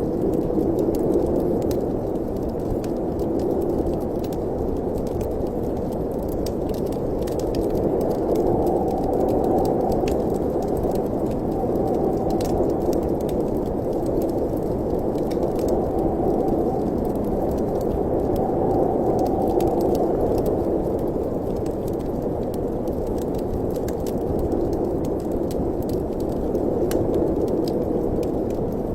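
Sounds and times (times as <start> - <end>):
wind-like rush: 0.0 - 28.9
wood fire crackling: 0.0 - 28.9.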